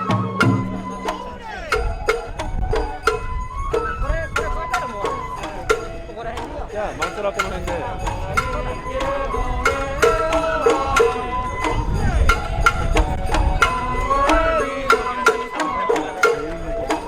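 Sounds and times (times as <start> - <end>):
bamboo flute melody: 0.0 - 17.0
drum strikes: 0.0 - 17.0.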